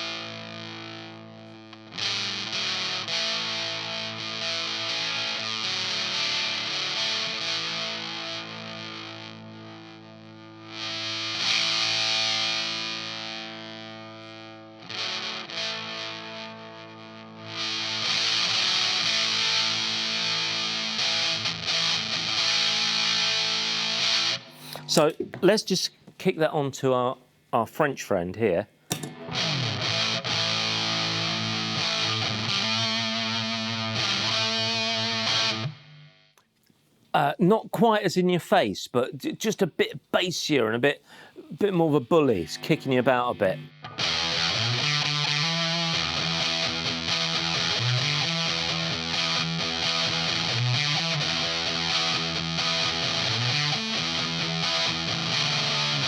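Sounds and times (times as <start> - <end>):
fuzzed electric guitar chords: 0.0 - 25.5, 28.9 - 36.3, 42.2 - 56.0.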